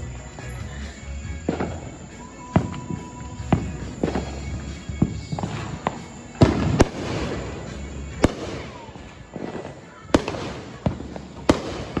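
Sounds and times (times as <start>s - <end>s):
crackling firework hiss: 0.0s - 12.0s
firework bangs: 0.0s - 12.0s.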